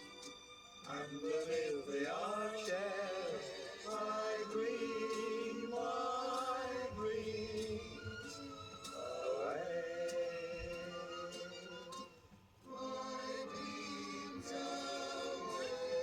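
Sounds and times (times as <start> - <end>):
wavering record player music: 0.0 - 16.0.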